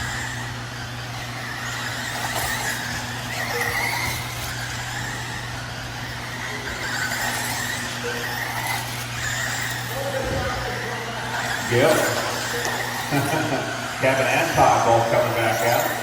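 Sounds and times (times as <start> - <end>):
electric rc car motors whining: 0.0 - 16.0.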